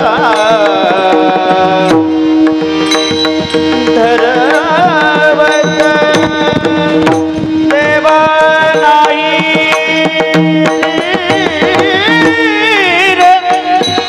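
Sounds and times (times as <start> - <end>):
continuous drone: 0.0 - 14.0
hand drum beating: 0.0 - 14.0
ornamented melody notes: 0.0 - 14.0.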